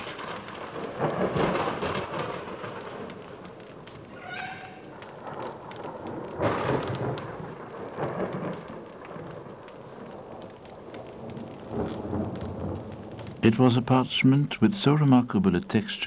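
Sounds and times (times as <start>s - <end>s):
thunder rumbling: 0.0s - 15.7s
steady rain falling: 0.0s - 16.0s.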